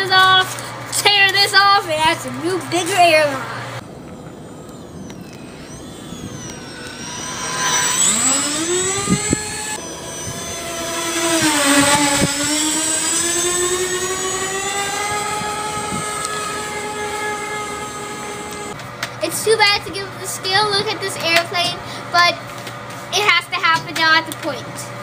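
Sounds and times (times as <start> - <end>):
electric ducted fans whining: 0.0 - 25.0.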